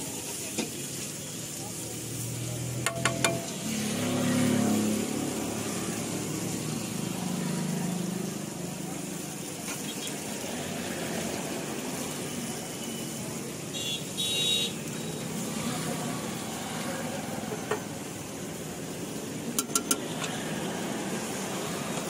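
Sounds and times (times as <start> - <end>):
street food stall background noise: 0.0 - 22.0.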